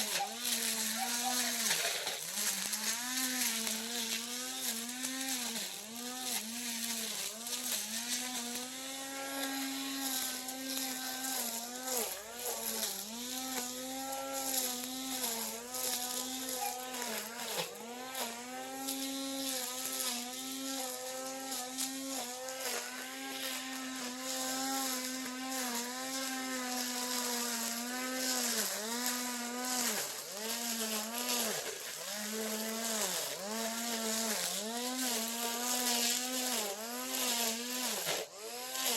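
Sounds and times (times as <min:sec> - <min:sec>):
brush cutter engine cutting grass: 0:00.0 - 0:38.9.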